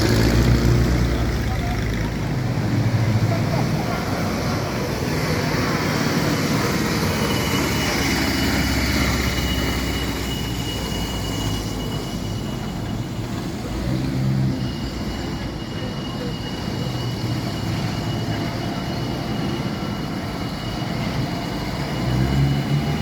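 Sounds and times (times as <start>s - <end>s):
vehicle rumble: 0.0s - 23.0s
thin high whine: 3.8s - 23.0s.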